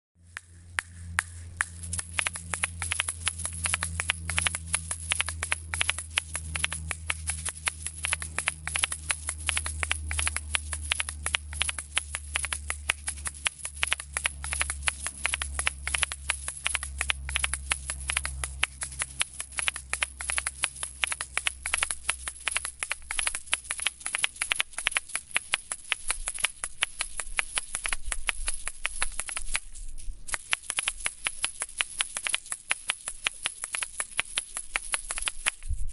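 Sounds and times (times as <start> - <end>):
low steady hum: 0.2 - 35.9
shaker shells clacking and rattling: 0.7 - 35.9.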